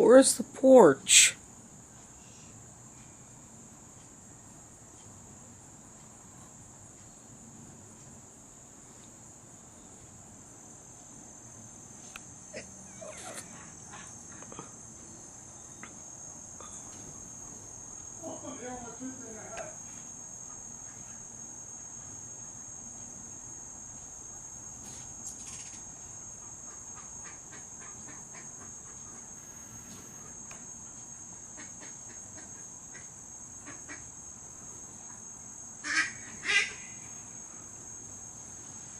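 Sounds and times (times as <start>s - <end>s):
insect chorus trilling: 0.0s - 38.9s.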